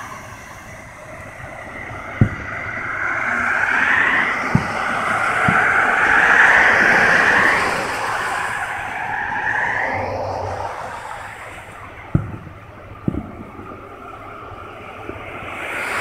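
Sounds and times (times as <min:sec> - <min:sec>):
distant fireworks booms: 0:00.0 - 0:08.6, 0:10.3 - 0:15.5
road traffic passing: 0:00.0 - 0:16.0.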